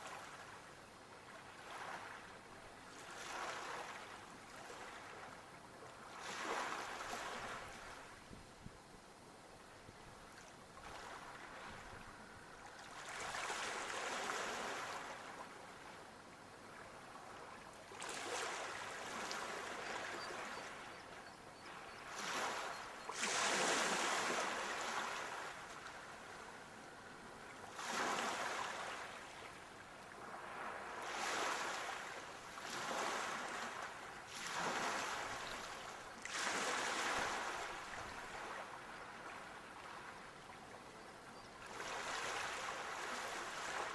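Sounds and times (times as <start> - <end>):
sea waves breaking on shore: 1.3 - 5.4, 6.0 - 8.2, 10.4 - 16.0, 16.7 - 40.9, 41.6 - 43.9.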